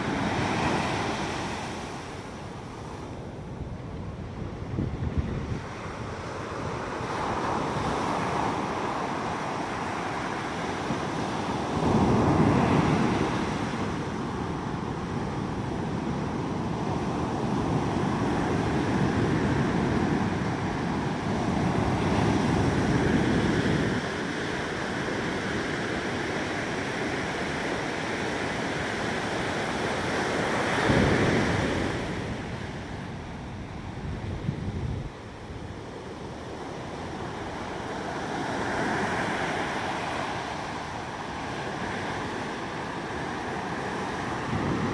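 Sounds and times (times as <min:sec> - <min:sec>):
ocean surf breaking on beach: 0:00.0 - 0:44.9.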